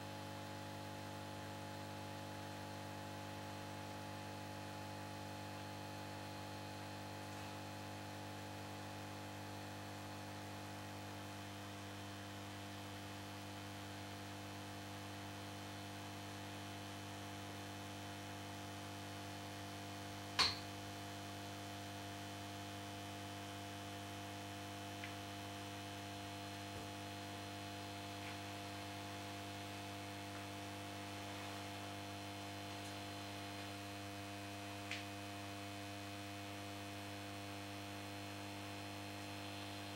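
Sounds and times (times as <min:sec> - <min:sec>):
lamp ballast mains hum: 0:00.0 - 0:39.9.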